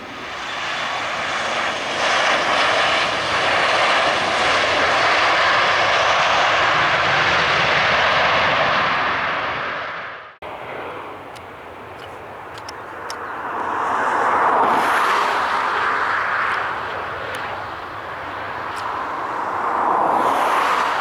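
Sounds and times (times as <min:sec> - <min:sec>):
airliner engine noise: 0:00.0 - 0:21.0.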